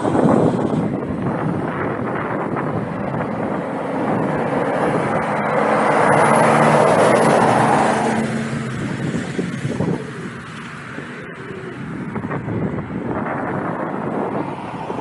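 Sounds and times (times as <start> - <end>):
lorry engine and tyre noise: 0.0 - 15.0
road traffic passing: 0.0 - 15.0.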